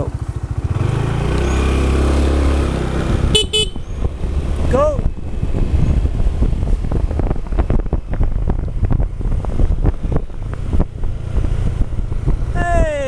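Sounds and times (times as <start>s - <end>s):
low motorbike ride rumble: 0.0s - 13.0s
wind buffeting microphone: 2.5s - 13.0s.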